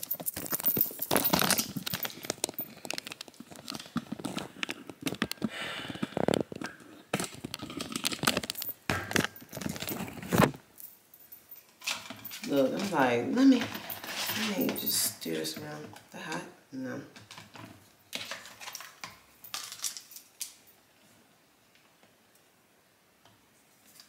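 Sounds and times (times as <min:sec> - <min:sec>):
crinkling handling noise: 0:00.0 - 0:16.4, 0:17.2 - 0:22.1.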